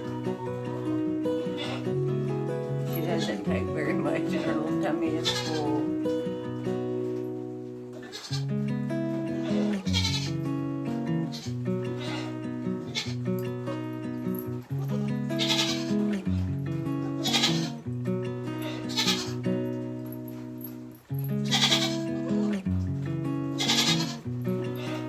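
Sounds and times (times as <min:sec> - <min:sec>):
background music melody: 0:00.0 - 0:25.0.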